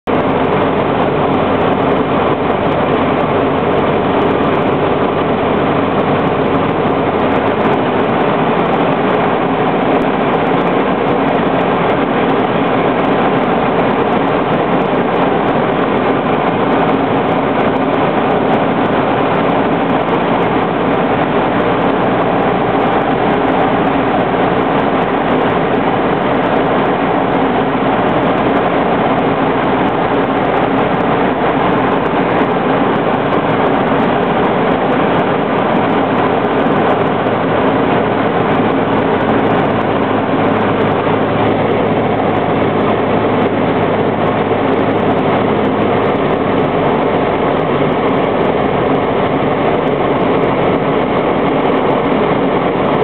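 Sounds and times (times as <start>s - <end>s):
light aircraft engine and propeller: 0.0s - 53.0s
wind rush: 0.0s - 53.0s.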